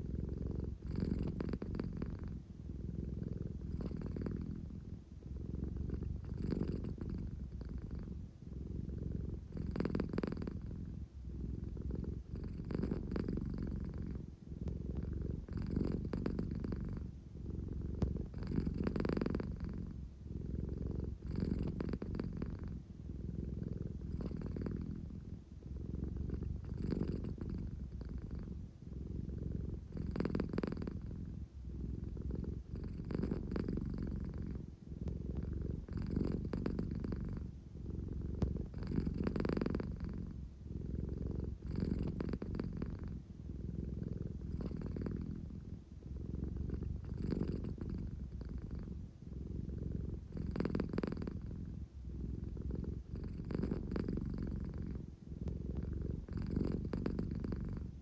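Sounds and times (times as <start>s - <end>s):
cat purring: 0.0s - 58.0s.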